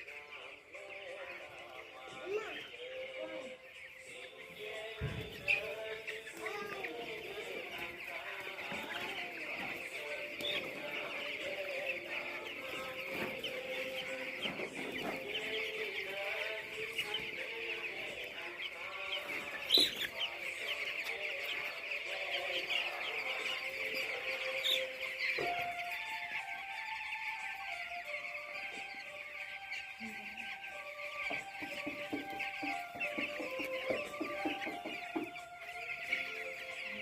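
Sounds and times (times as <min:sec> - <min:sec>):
chickens peeping and clucking: 0:00.0 - 0:37.0.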